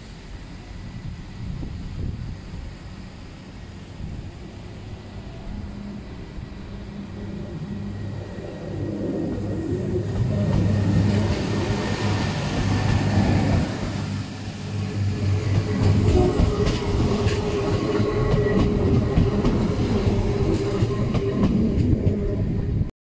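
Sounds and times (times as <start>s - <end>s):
diesel train engine hum: 0.0s - 22.9s
high-pitched train whine: 0.0s - 22.9s.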